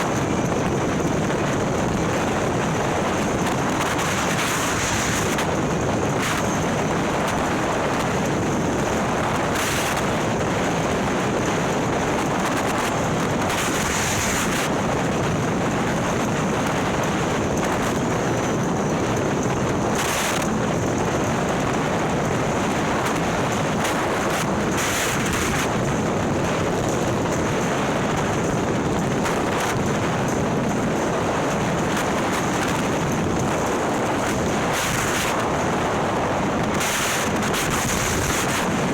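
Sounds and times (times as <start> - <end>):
motorcycle engine and road noise: 0.0 - 38.9
wind rushing over microphone: 0.0 - 38.9.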